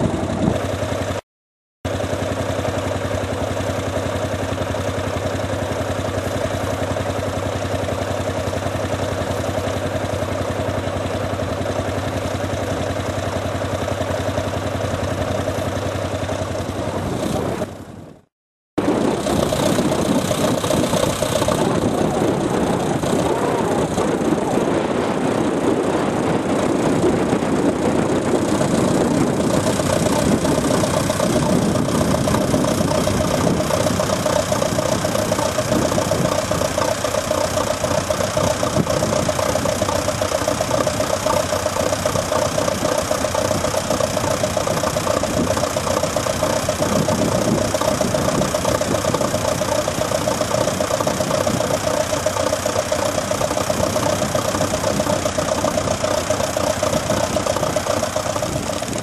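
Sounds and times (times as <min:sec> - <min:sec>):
tractor engine running: 0:00.0 - 0:01.2, 0:01.8 - 0:59.0.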